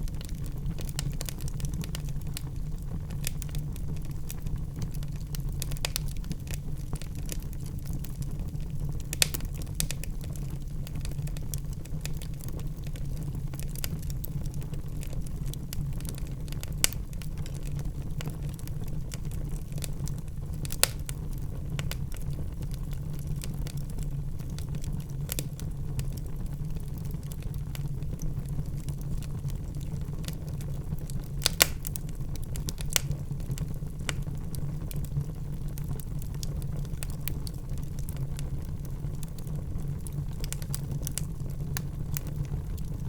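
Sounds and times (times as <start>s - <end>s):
burning logs crackling and popping: 0.0s - 43.0s
fire flames rumbling: 0.0s - 43.0s.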